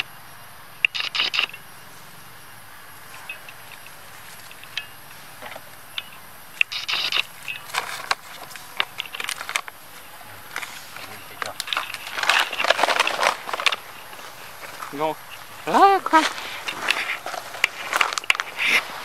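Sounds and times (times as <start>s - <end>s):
dry leaves rustling and crackling: 1.3s - 19.0s
twigs snapping: 3.0s - 19.0s.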